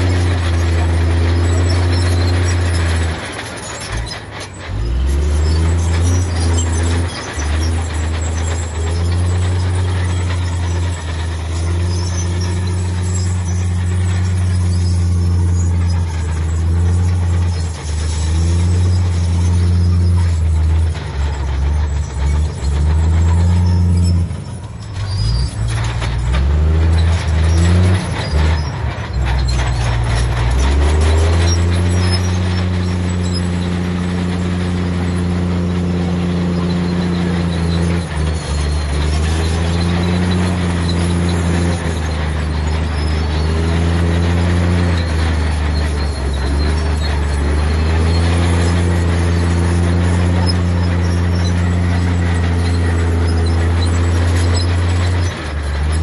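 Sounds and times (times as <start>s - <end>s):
diesel machinery engine revving: 0.0s - 56.0s
rattling and clanking: 0.0s - 56.0s.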